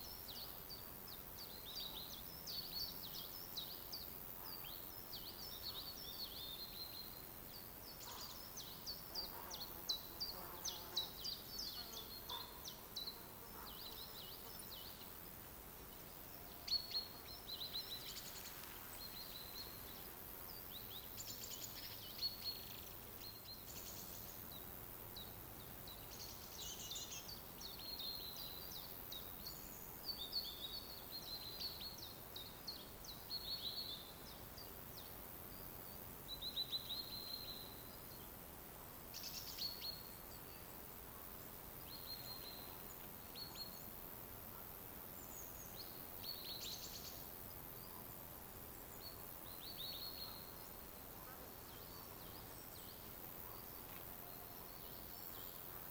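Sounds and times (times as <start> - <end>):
faint steady hiss: 0.0 - 55.9
songbirds chirping and trilling: 0.0 - 55.9.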